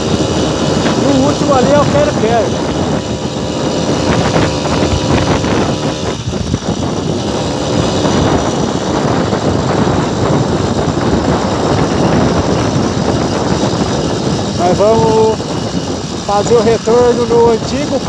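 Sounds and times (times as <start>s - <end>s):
small engine running: 0.0s - 18.0s
wind noise on microphone: 0.0s - 18.0s.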